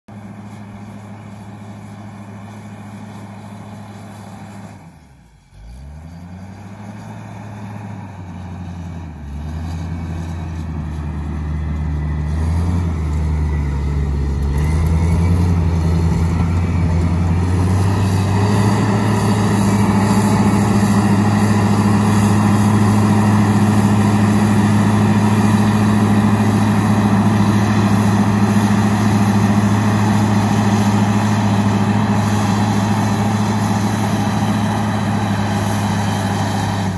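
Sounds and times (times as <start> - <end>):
wheel loader diesel engine revving: 0.1 - 36.9.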